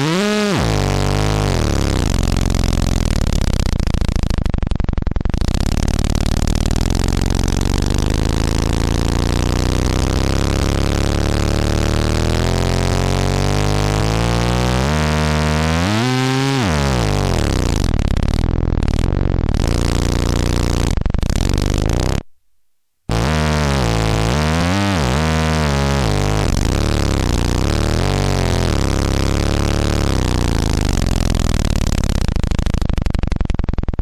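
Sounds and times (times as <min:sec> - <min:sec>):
distorted synth drone: 0:00.0 - 0:22.2, 0:23.1 - 0:33.8.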